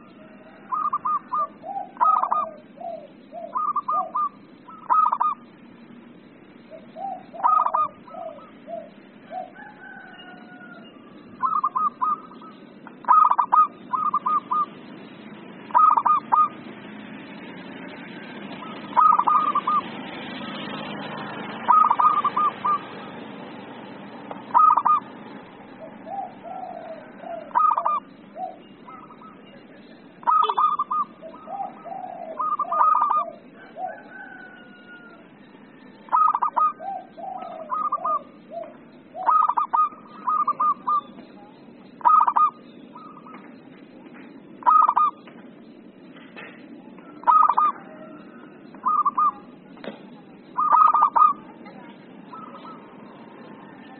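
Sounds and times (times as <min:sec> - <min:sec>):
dove cooing: 0:00.0 - 0:43.7, 0:44.5 - 0:45.3, 0:46.4 - 0:53.9.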